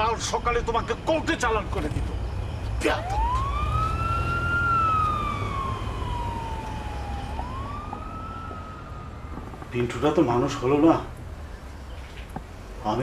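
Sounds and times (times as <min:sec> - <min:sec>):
siren wailing: 0:00.0 - 0:11.1.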